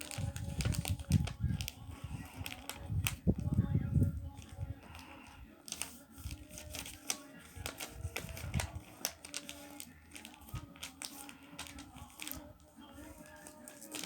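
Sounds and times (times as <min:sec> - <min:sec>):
paper being folded: 0:00.0 - 0:14.0.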